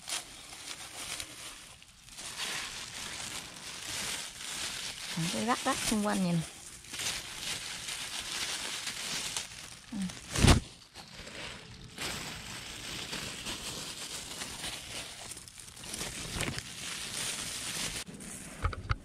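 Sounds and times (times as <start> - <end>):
powder sprinkled on dry leaves: 0.0 - 18.5
plastic bag crinkling: 0.0 - 18.6.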